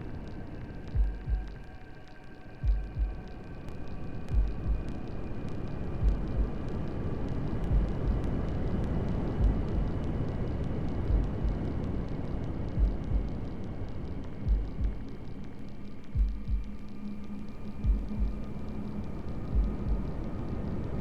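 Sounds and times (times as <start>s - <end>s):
white noise hiss: 0.0s - 21.0s.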